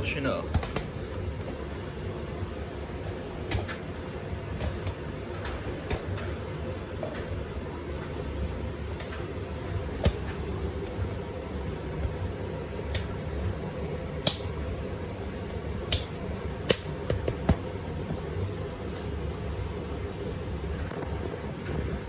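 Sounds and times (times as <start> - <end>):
washing machine humming: 0.0 - 22.0.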